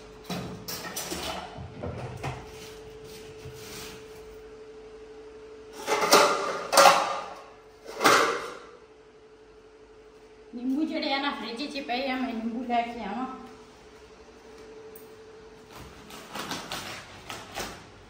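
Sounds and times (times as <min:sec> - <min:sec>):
faint steady hum: 0:00.0 - 0:16.4.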